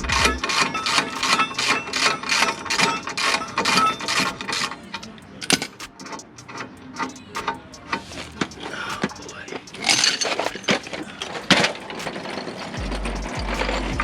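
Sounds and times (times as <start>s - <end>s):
ratchet wrench clicking: 0.0s - 14.0s.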